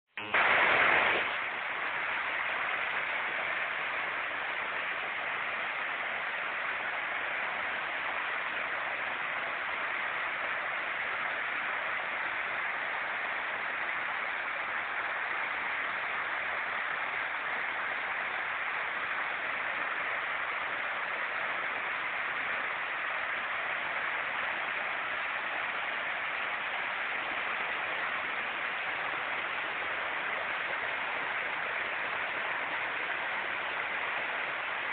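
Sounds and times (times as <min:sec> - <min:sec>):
water rushing from culvert: 0:00.2 - 0:34.9.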